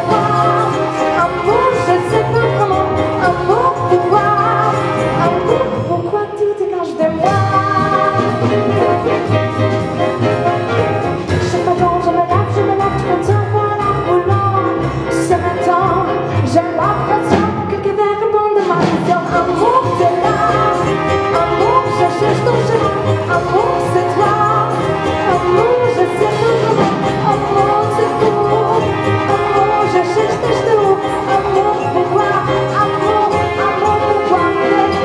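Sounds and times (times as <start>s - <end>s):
double bass: 0.0s - 6.1s, 7.2s - 17.7s, 18.6s - 35.0s
trumpet: 0.0s - 6.1s, 7.1s - 12.5s, 18.4s - 35.0s
drums: 0.0s - 35.0s
grand piano: 0.0s - 35.0s
woman singing: 0.0s - 35.0s.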